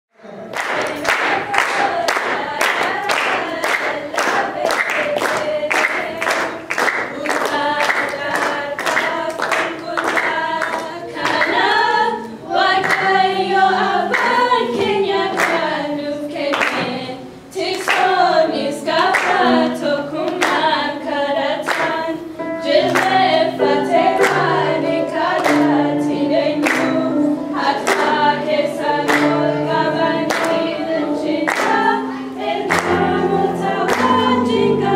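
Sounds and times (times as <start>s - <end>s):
group singing worship song: 0.3s - 34.9s
hands clapping a beat: 0.5s - 11.6s, 12.7s - 13.3s, 13.9s - 15.8s, 16.4s - 18.3s, 18.9s - 19.6s, 20.2s - 20.9s, 21.6s - 22.0s, 22.7s - 34.6s.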